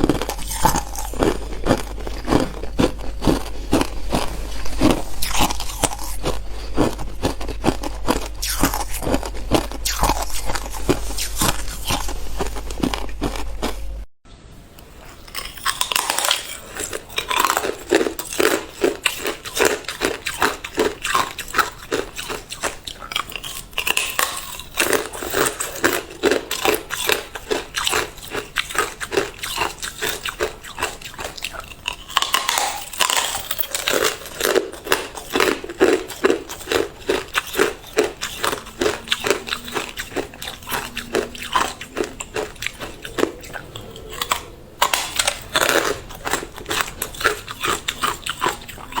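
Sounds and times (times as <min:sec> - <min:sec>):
ice being chewed: 0:00.0 - 0:14.1, 0:14.8 - 0:49.0.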